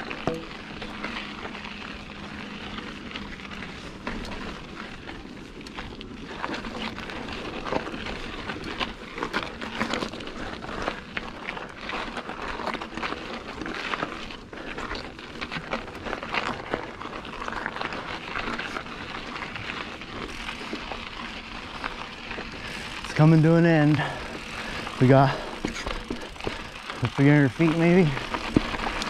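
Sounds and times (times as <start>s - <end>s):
bike clicks and rattles: 0.0s - 29.0s
tyres crunching on gravel and stones: 0.0s - 29.0s.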